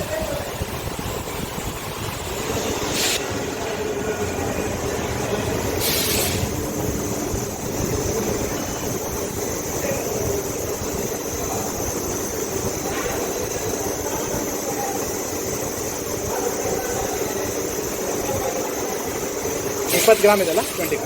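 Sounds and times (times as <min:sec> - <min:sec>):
wheel balancing machine spinning: 0:00.0 - 0:21.0.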